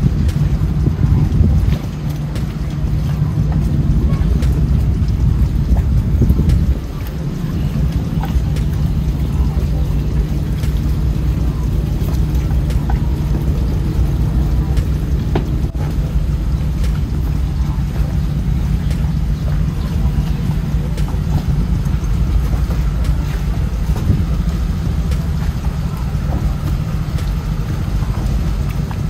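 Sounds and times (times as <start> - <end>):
motor running steadily: 0.0 - 29.0
wind noise on microphone: 0.0 - 29.0.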